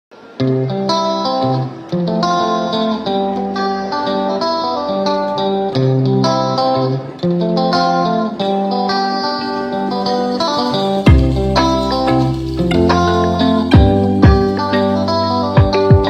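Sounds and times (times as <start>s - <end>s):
plucked guitar tune: 0.1s - 16.0s.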